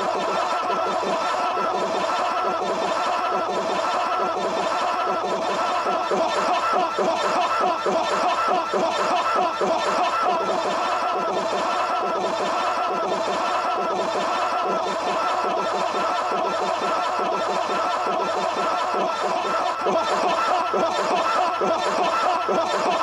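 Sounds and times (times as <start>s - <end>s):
wavering voice-like sounds: 0.0s - 23.0s.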